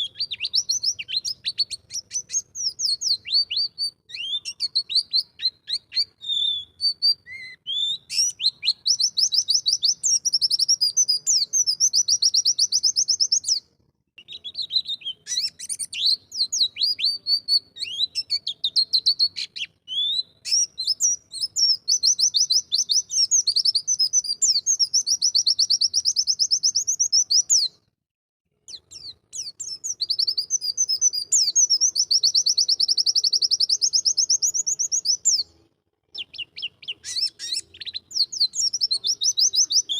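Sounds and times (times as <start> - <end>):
bird singing trilled phrases: 0.0 - 27.8, 28.7 - 39.9.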